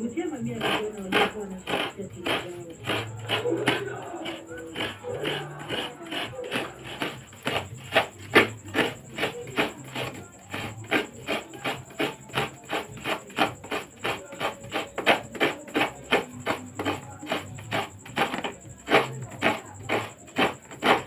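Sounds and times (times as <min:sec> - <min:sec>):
rapid food scraping strokes: 0:00.0 - 0:21.0.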